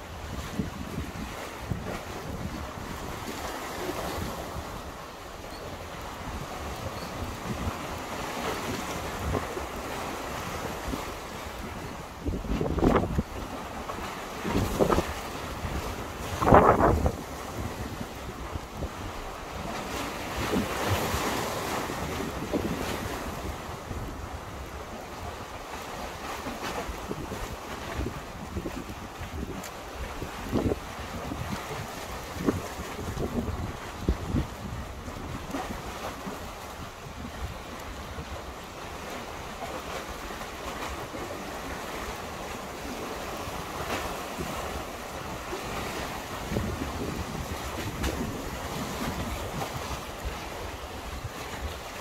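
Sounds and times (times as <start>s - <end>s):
sea waves washing against concrete: 0.0s - 52.0s
wind buffeting microphone: 0.0s - 52.0s.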